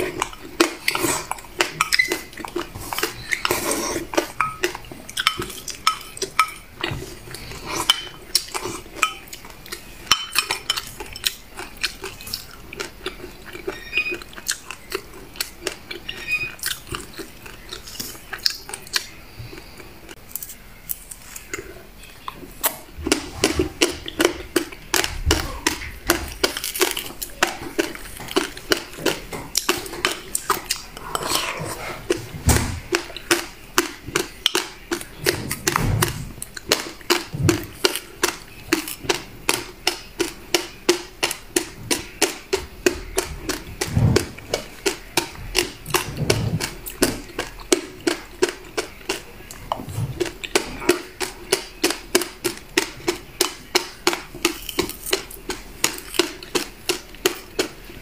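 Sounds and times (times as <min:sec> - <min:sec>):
chewing crunches: 0:00.0 - 0:58.0.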